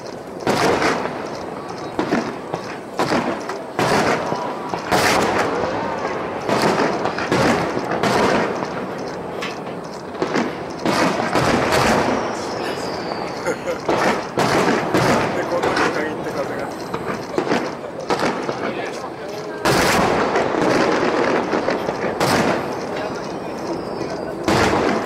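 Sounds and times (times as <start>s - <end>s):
firework shells booming: 0.0s - 25.0s.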